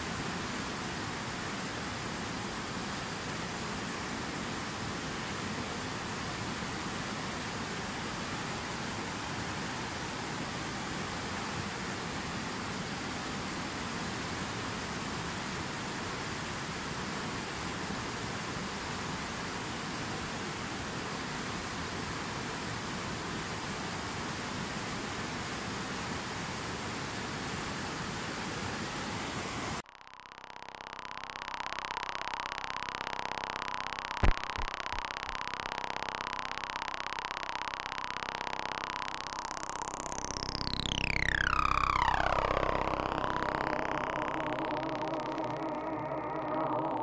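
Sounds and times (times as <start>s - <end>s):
faint pulsing sound: 0.0s - 25.7s, 29.7s - 47.0s.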